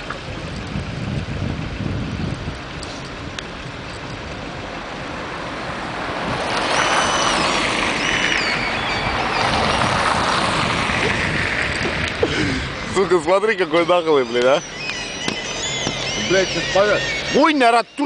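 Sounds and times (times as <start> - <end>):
road vehicle noise: 0.0 - 18.0.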